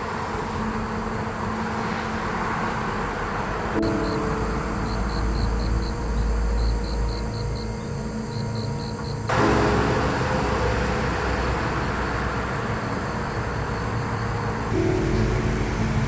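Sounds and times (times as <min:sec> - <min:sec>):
passing vehicles: 0:00.0 - 0:07.2, 0:09.3 - 0:16.0.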